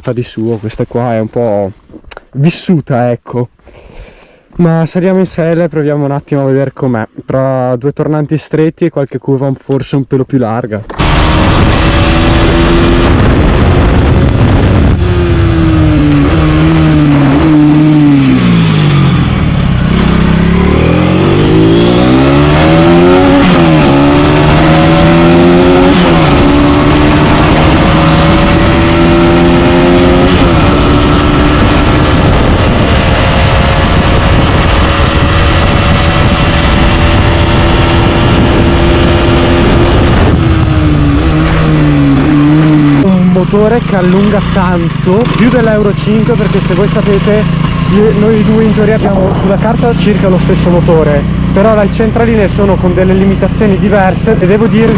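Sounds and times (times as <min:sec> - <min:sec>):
motorcycle engine revving: 0:10.9 - 0:54.9.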